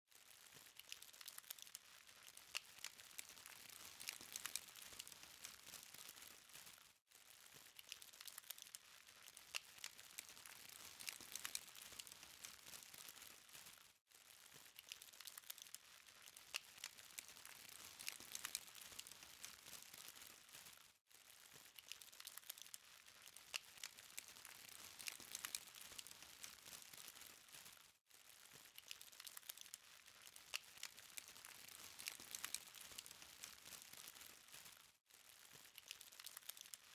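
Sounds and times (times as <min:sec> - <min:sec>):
burning charcoal crackling: 0:00.3 - 0:13.9, 0:14.5 - 0:20.8, 0:21.4 - 0:27.8, 0:28.4 - 0:34.8, 0:35.4 - 0:36.9.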